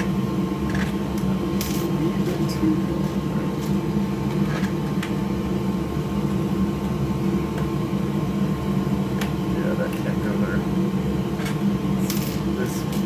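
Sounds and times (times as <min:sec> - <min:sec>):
machine fan humming: 0:00.0 - 0:13.0.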